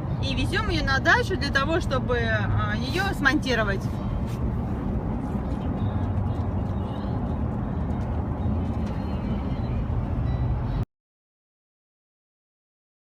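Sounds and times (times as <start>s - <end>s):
car road and engine rumble: 0.0s - 10.9s.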